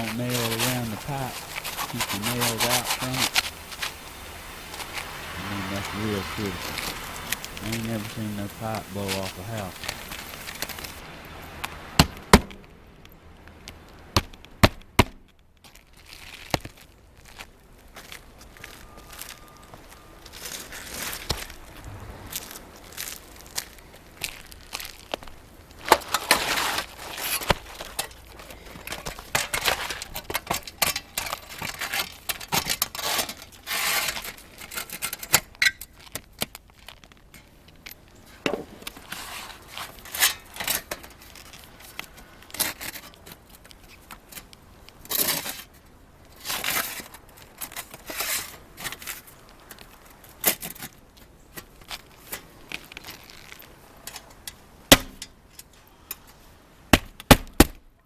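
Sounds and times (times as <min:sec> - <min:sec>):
shingles scraping and rustling: 0:00.0 - 0:11.0, 0:13.5 - 0:57.7.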